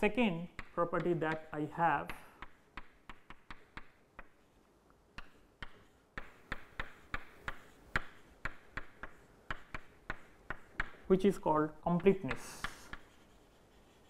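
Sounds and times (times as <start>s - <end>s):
chalk tapping on a blackboard: 0.0s - 11.2s, 11.9s - 14.0s.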